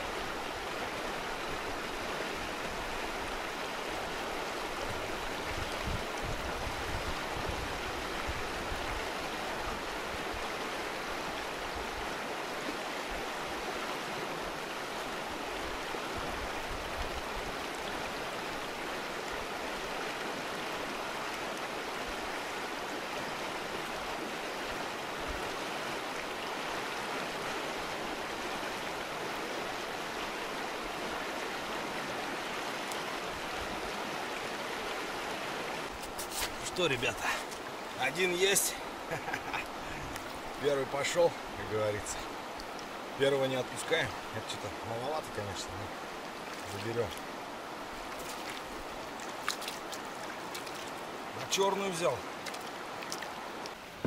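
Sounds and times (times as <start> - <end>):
river rushing over stones: 0.0 - 54.0.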